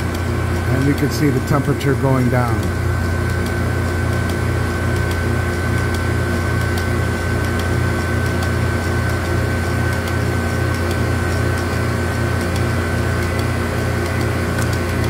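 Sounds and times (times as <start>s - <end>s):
frozen drink dispenser humming: 0.0s - 15.0s
high machine whine: 0.0s - 15.0s.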